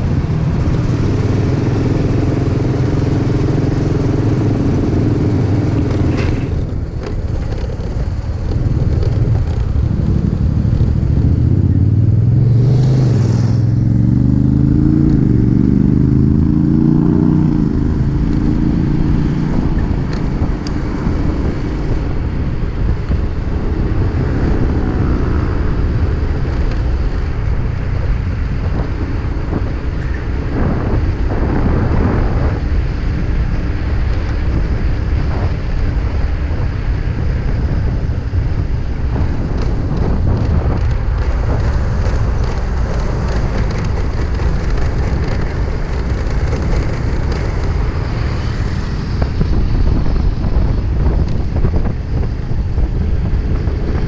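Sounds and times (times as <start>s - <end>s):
motorcycle engine: 0.0s - 54.0s
road rumble: 0.0s - 54.0s
wind noise on microphone: 0.0s - 54.0s.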